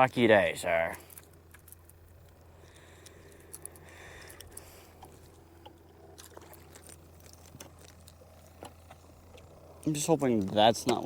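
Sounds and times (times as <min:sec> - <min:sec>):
low steady hum: 0:00.0 - 0:11.0
small clicks and knocks: 0:00.9 - 0:09.5, 0:10.3 - 0:11.0.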